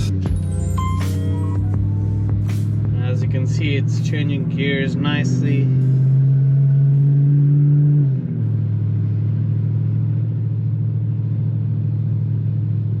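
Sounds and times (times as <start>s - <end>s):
car engine shifting up a gear: 0.0s - 13.0s.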